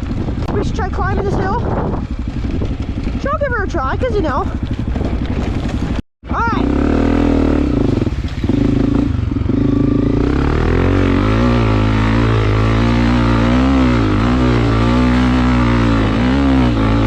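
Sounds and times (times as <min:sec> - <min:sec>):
dirt bike engine revving: 0:01.2 - 0:17.0.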